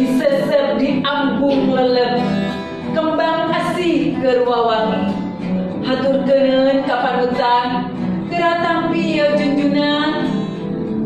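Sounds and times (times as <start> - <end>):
woman singing: 0.0 - 10.5
acoustic guitar: 0.0 - 11.0.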